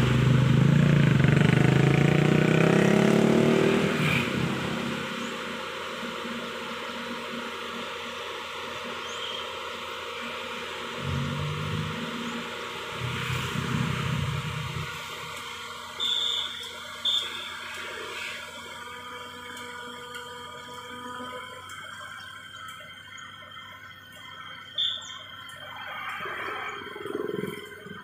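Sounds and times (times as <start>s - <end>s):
excavator engine running: 0.0s - 28.0s
steady machine whine: 0.0s - 28.0s.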